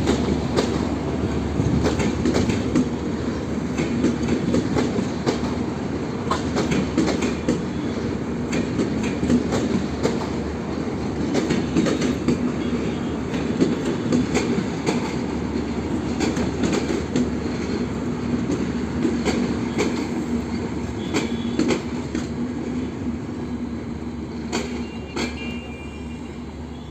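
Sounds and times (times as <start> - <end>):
train wheels clicking over rail joints: 0.0 - 23.3, 24.0 - 25.6
train rumble and hum: 0.0 - 26.9.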